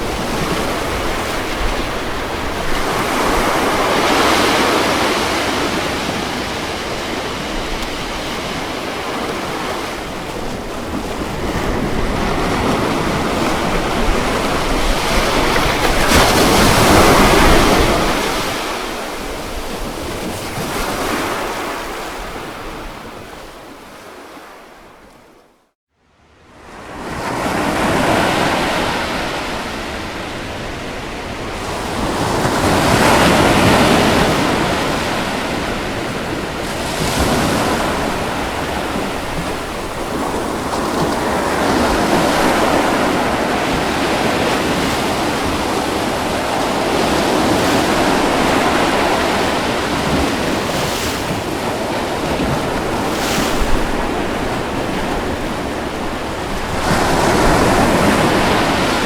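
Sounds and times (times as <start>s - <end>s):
ocean waves breaking: 0.0s - 25.5s, 26.6s - 59.0s.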